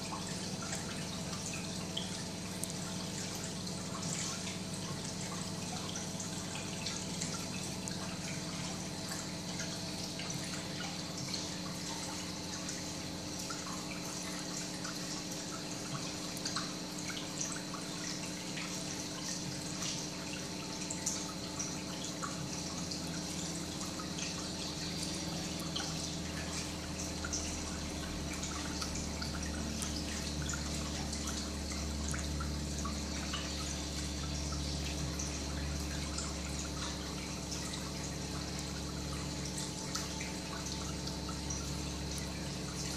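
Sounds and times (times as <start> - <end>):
aquarium pump hum: 0.0 - 42.9
water trickling and dripping: 0.0 - 42.9.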